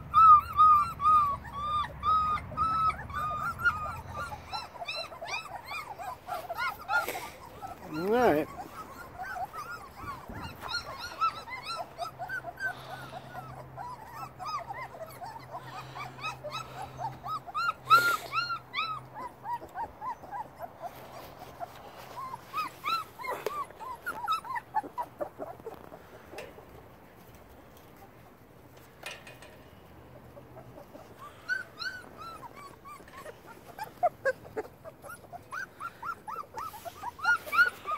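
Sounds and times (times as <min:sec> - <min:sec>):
puppies whimpering and squeaking: 0:00.0 - 0:37.9.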